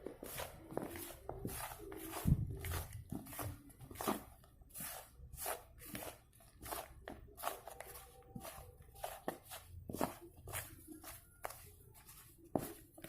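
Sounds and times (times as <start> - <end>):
chicken rustling in flour: 0.0 - 13.0.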